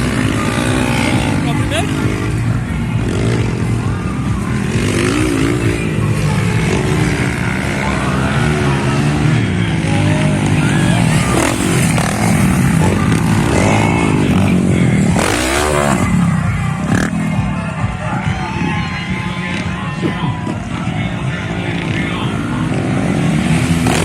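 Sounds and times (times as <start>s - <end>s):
motocross motorcycles revving: 0.0s - 24.0s.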